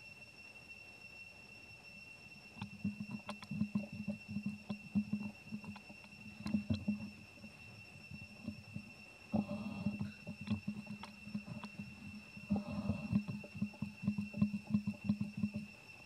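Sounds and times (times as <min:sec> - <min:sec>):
high-pitched insect drone: 0:00.0 - 0:16.0
low crackling and thumping: 0:02.6 - 0:15.8.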